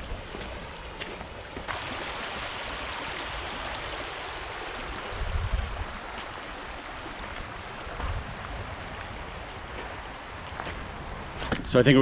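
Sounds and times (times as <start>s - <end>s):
creek rippling over stones: 0.0s - 11.5s.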